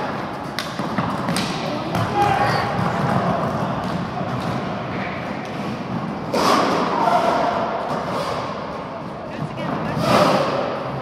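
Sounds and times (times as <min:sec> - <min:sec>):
skates clattering on rink floor: 0:00.0 - 0:11.0.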